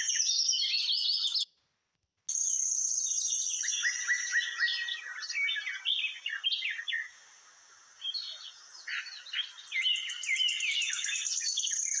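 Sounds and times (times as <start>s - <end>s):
small birds chirping: 0.0s - 1.5s, 2.3s - 12.0s.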